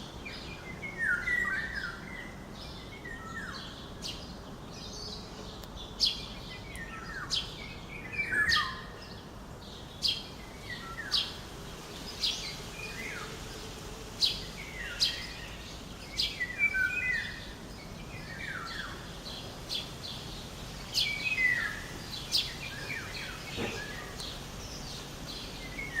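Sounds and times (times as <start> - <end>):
low background noise: 0.0 - 26.0
songbirds chirping and whistling: 0.0 - 26.0.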